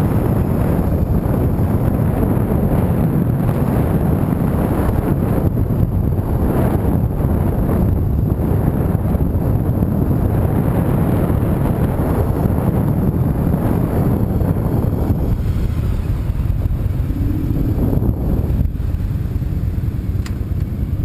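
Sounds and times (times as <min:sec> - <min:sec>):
car road and engine rumble: 0:00.0 - 0:21.0
wind buffeting microphone: 0:00.0 - 0:21.0.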